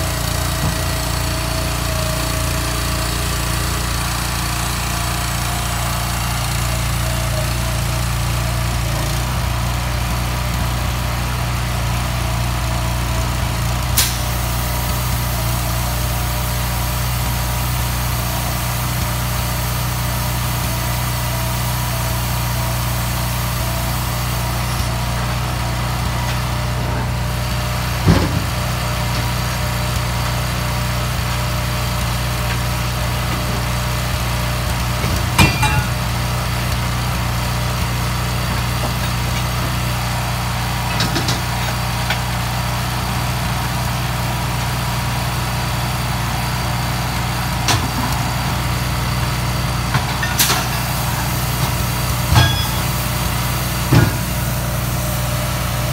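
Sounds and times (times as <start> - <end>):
truck engine idling: 0.0 - 55.9.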